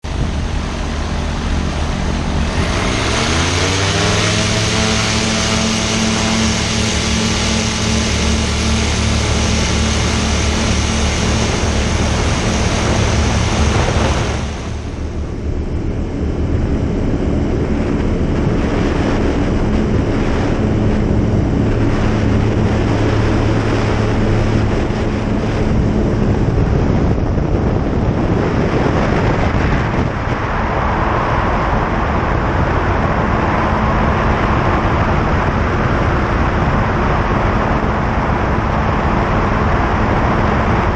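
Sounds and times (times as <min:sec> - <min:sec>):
light aircraft engine running: 0:00.0 - 0:40.9.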